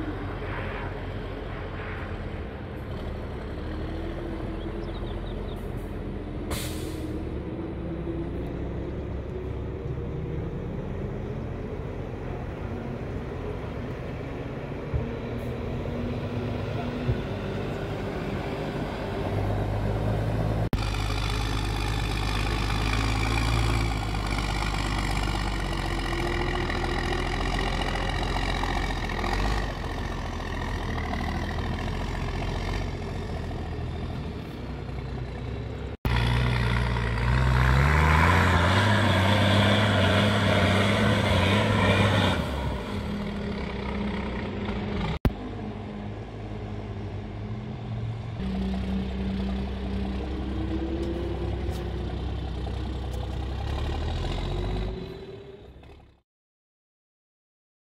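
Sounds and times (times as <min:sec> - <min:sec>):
diesel truck engine revving: 0:02.8 - 0:56.2.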